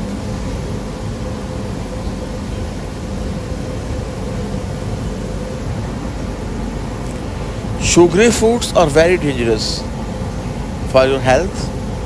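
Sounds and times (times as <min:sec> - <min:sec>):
even hiss: 0:00.0 - 0:12.0
faint steady hum: 0:00.0 - 0:12.0.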